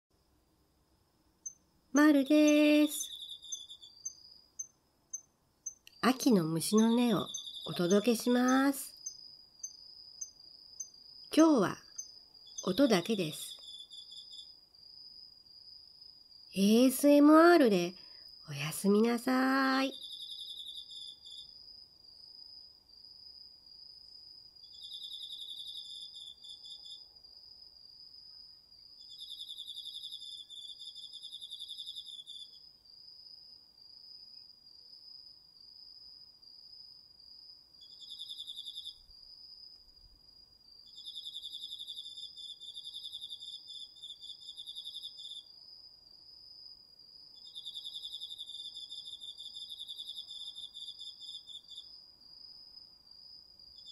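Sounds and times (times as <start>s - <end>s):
insect steady high trill: 1.3s - 53.9s
insect lower pulsing trill: 1.4s - 53.9s.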